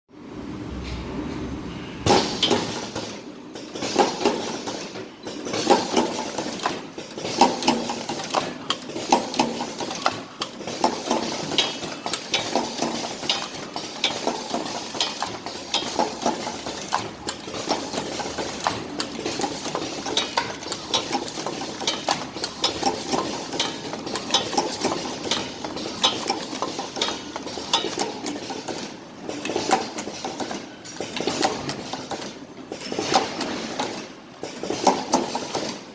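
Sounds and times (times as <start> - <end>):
cartoning machine clicking and clacking: 2.1 - 35.9.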